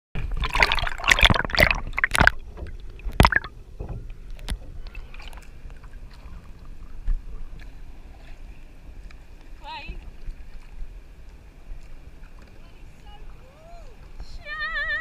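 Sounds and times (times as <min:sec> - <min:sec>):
sea water splashing: 0:00.2 - 0:15.0.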